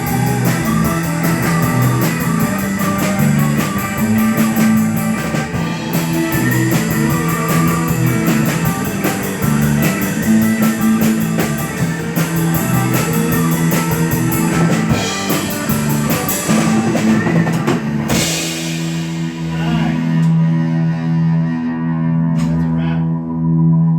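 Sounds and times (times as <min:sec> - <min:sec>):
cymbals keeping fast beat: 0:00.0 - 0:20.2
rock band playing: 0:00.0 - 0:23.9.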